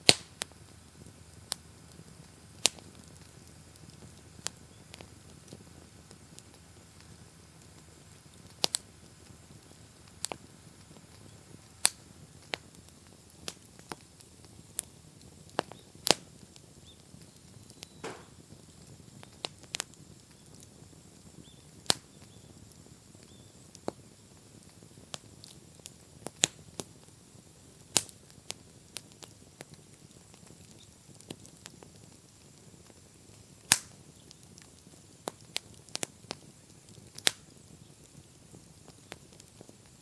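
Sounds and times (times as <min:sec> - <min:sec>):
bonfire crackling and popping: 0:00.0 - 0:40.0.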